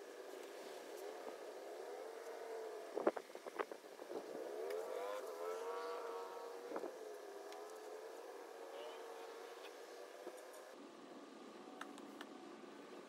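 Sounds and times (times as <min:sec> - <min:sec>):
motor droning: 0:00.0 - 0:10.8.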